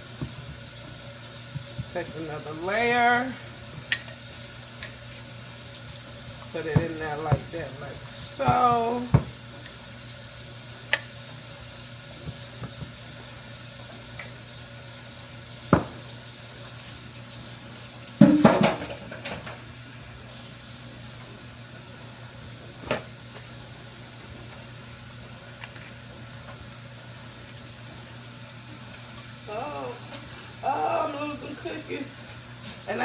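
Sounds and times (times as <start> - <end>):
tap water running into sink: 0.0 - 29.4.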